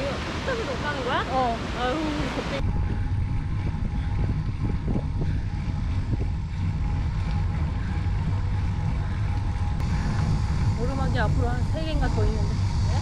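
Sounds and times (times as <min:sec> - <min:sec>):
faint steady whine: 0:00.0 - 0:13.0
road noise: 0:00.0 - 0:13.0
wind rumbling on microphone: 0:00.0 - 0:13.0.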